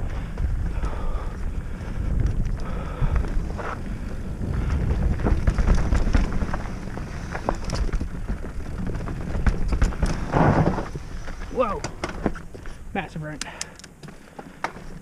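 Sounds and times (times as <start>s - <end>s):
bike clicking and rattling: 0.0s - 15.0s
wind and ground rumble: 0.0s - 15.0s.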